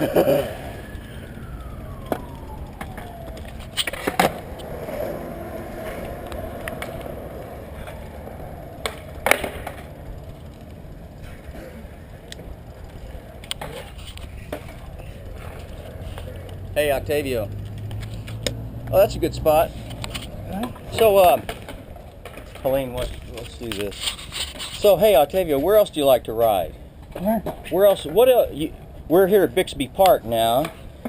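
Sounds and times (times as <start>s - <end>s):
skateboards rolling on concrete: 0.0s - 31.0s
skateboards clacking on ground: 2.0s - 16.7s, 19.5s - 31.0s.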